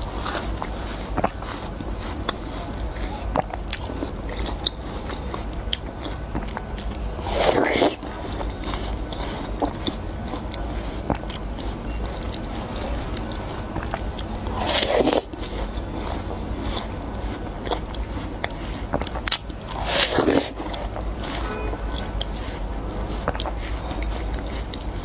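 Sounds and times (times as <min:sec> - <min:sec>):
wet crunchy watermelon bites: 0:00.0 - 0:24.9
chewing with wet clicks: 0:00.0 - 0:25.0.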